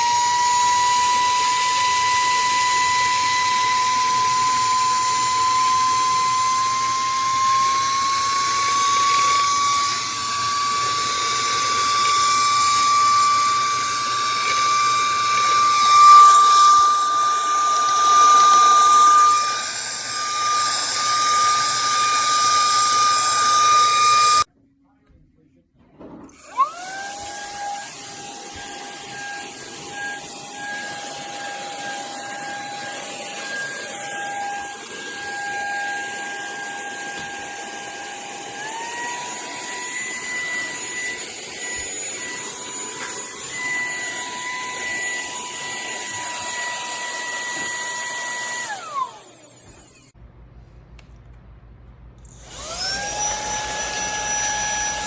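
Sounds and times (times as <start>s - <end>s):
handheld vacuum whining: 0.0s - 24.5s, 26.3s - 50.2s, 52.2s - 55.0s.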